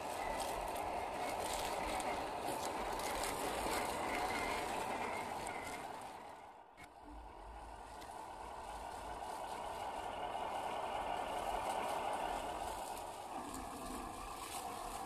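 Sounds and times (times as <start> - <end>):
rc car motor whining: 0.0 - 15.0.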